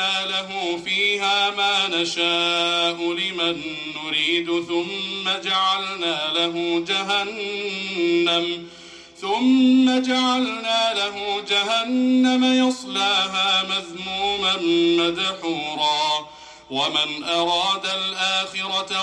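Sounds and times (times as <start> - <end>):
man reciting melodically: 0.0 - 19.0.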